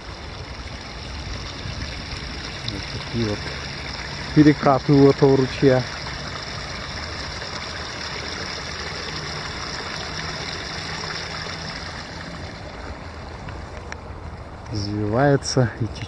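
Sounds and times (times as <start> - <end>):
stream babbling and splashing: 0.0 - 16.0.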